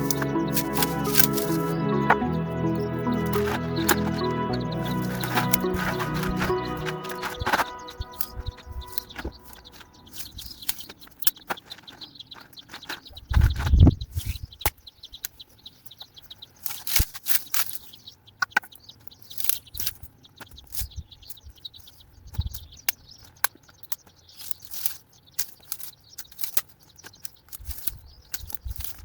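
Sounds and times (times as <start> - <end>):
dry brambles crackling and rustling: 0.0 - 1.8, 3.0 - 20.9, 23.2 - 29.0.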